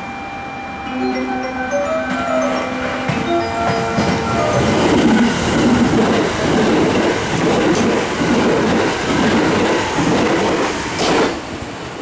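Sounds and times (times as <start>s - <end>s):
train wheels rumbling on rails: 2.1s - 12.0s.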